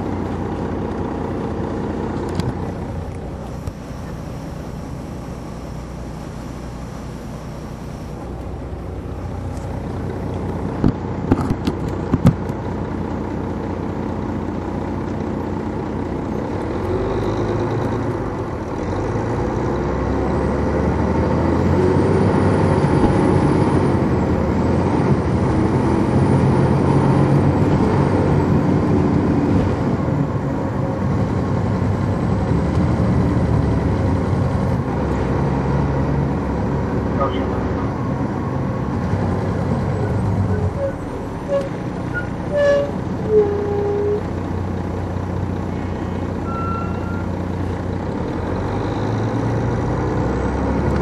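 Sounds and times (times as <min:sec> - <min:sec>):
diesel bus engine running: 0:00.0 - 0:51.0.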